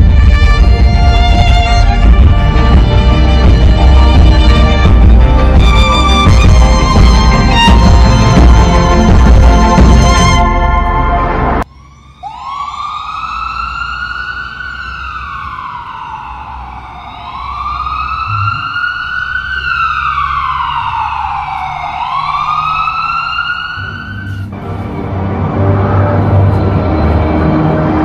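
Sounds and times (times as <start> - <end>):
emergency siren wailing: 0.0 - 28.0.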